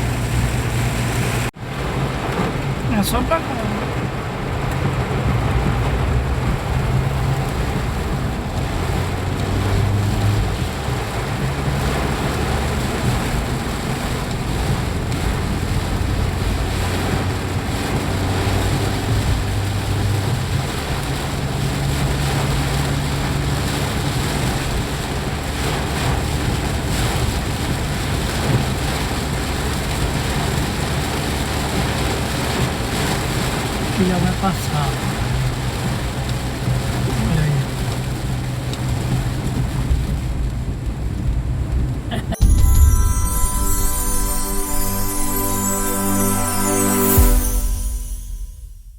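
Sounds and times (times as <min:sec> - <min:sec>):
vehicle engine hum: 0:00.0 - 0:42.5
heavy rain: 0:00.0 - 0:48.9.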